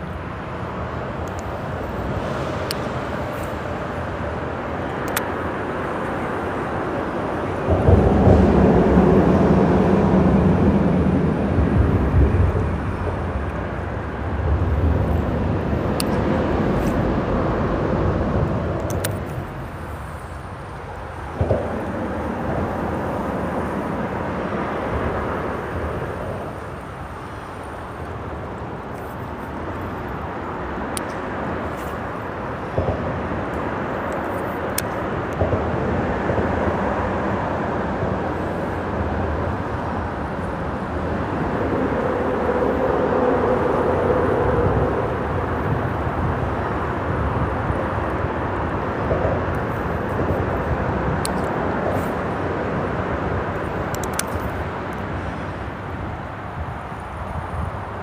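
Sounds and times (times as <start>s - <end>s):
freeway traffic rumble: 0.0s - 58.0s.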